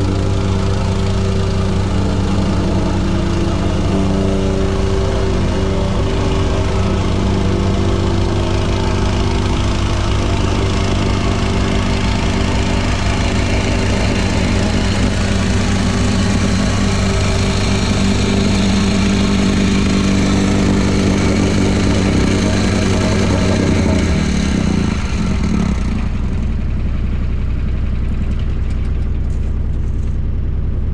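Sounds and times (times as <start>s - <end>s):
construction equipment engine running: 0.0s - 30.9s.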